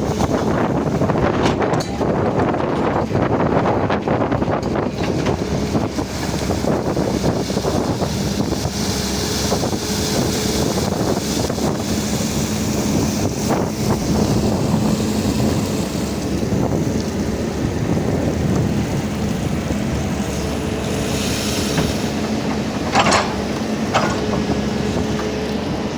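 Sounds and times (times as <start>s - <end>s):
diesel engine running: 0.0s - 25.9s
wind noise on microphone: 0.0s - 25.9s.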